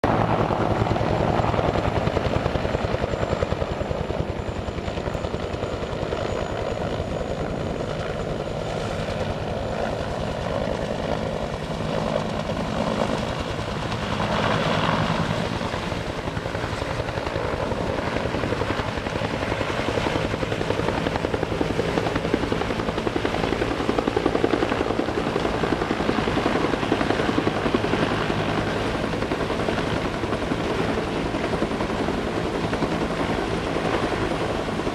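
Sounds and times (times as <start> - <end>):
helicopter rotor chopping: 0.0 - 34.9.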